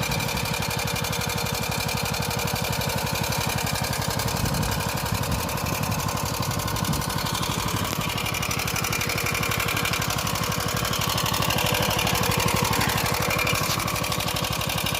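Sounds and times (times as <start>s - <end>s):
walk-behind tractor engine running: 0.0s - 14.9s.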